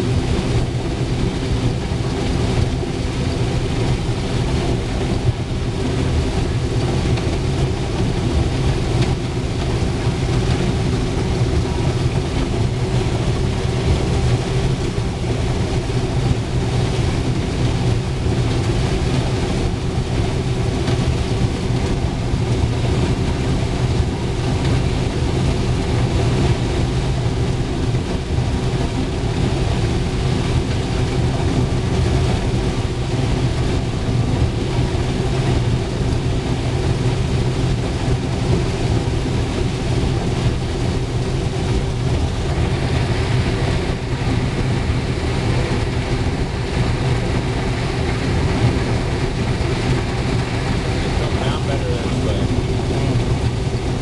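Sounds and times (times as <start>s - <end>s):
combine harvester engine drone: 0.0s - 54.0s
steady low hum: 0.0s - 54.0s.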